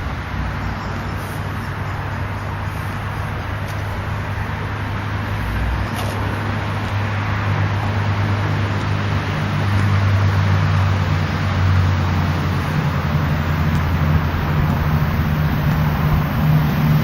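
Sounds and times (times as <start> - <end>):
diesel train engine rumbling: 0.0 - 17.0.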